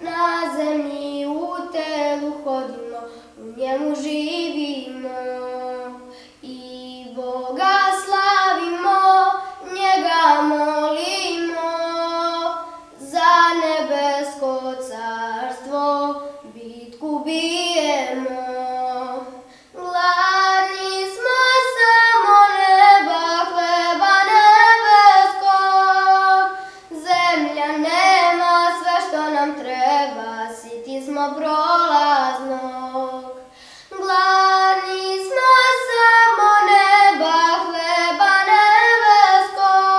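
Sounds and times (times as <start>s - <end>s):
high solo voice singing: 0.0s - 39.9s.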